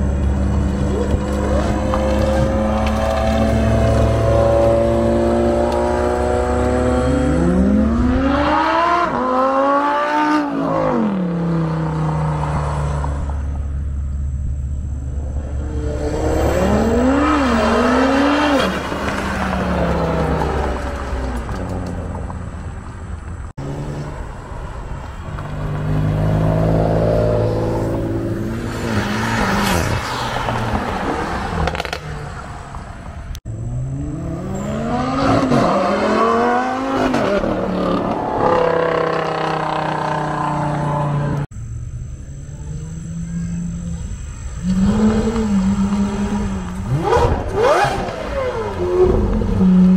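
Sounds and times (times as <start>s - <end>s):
car engines accelerating hard: 0.0s - 49.9s.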